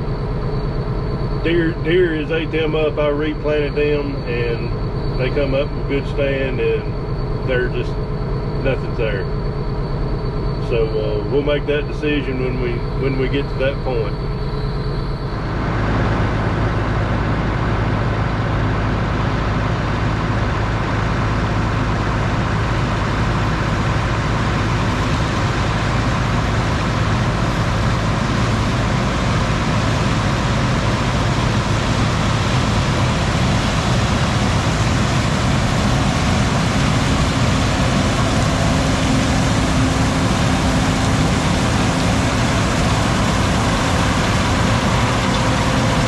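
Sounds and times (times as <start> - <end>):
farm vehicle engine droning: 0.0 - 46.0.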